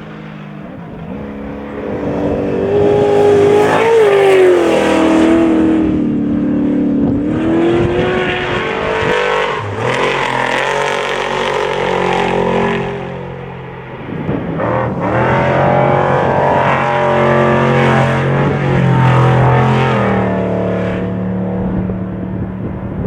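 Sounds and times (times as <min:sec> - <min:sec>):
race vehicle engines revving: 0:00.0 - 0:23.0.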